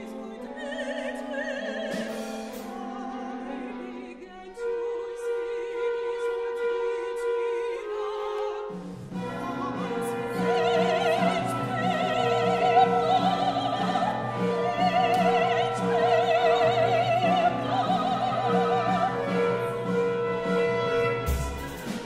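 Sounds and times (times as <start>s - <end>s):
woman singing opera: 0.0s - 21.7s
chamber ensemble playing: 0.0s - 22.0s.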